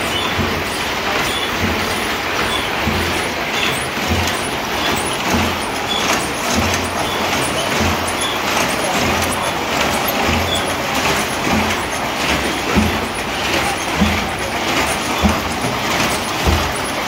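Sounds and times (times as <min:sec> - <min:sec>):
heavy loom thump: 0:00.0 - 0:17.0
loom mechanical clatter: 0:00.0 - 0:17.0.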